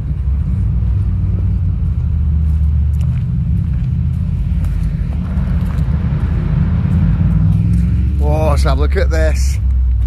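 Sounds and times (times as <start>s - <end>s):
faint footsteps on tarmac: 0.0s - 10.0s
wind buffeting microphone: 0.0s - 10.0s.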